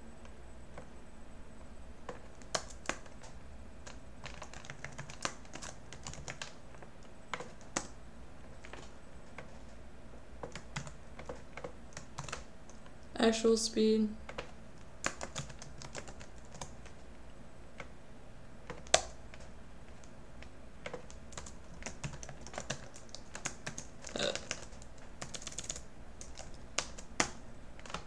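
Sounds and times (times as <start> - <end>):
computer keyboard typing: 2.0 - 9.8, 10.4 - 13.0, 14.2 - 17.1, 18.6 - 28.0.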